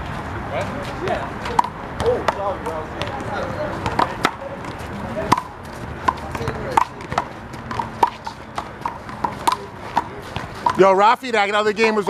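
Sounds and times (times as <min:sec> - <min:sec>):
voices murmuring: 0:00.4 - 0:12.0.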